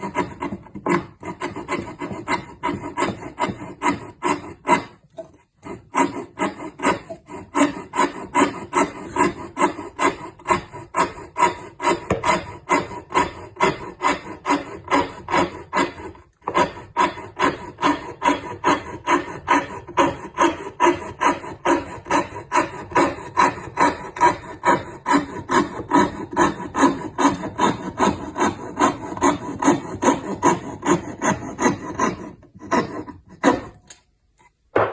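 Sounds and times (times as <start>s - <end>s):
hand tool rasping across wood: 0.0s - 34.0s.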